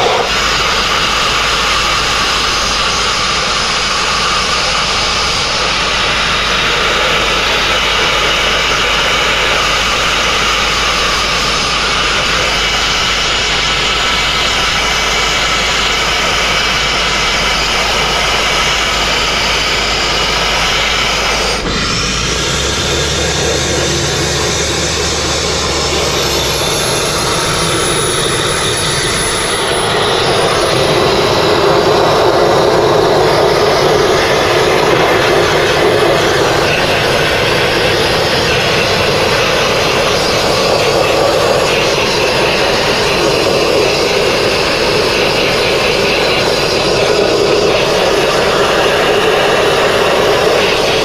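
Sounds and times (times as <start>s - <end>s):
sandblasting nozzle rushing hiss: 0.0s - 51.0s.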